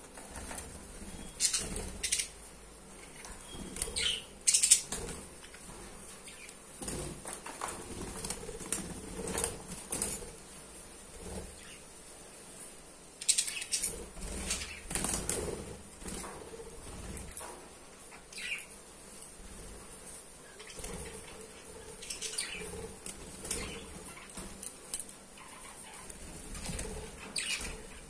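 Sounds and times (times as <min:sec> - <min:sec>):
birds flapping and scrabbling on mesh: 0:00.1 - 0:02.3, 0:03.1 - 0:10.4, 0:11.0 - 0:11.8, 0:13.7 - 0:17.7, 0:19.1 - 0:28.0.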